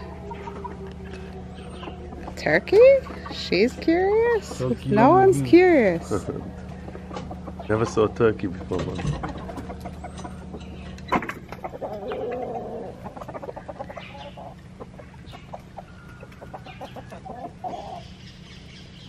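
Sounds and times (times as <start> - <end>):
chickens clucking: 0.0 - 19.0
low hum: 0.0 - 19.0.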